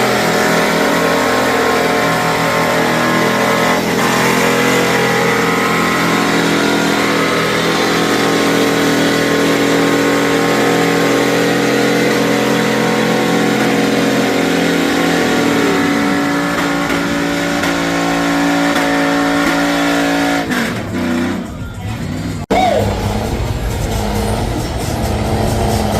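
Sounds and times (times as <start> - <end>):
truck engine at high revs: 0.0 - 25.9.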